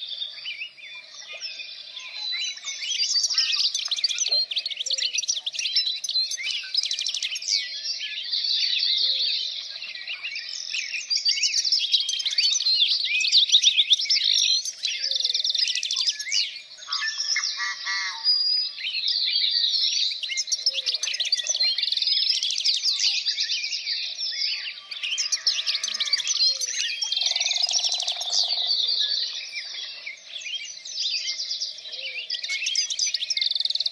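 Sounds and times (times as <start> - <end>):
birds chirping and singing: 0.0 - 33.9.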